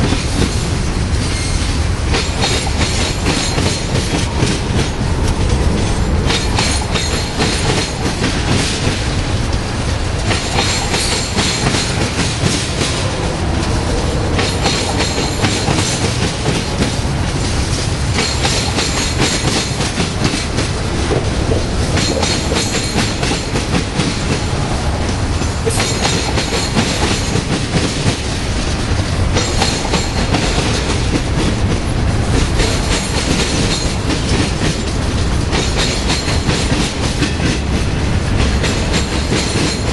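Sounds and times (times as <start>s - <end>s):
freight train wheels clattering: 0.0s - 39.9s
train wheel hiss: 0.0s - 39.9s.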